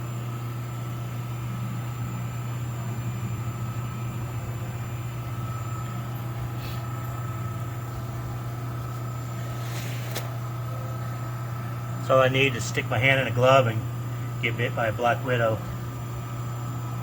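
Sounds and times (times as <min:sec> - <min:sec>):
shop machinery humming: 0:00.0 - 0:17.0.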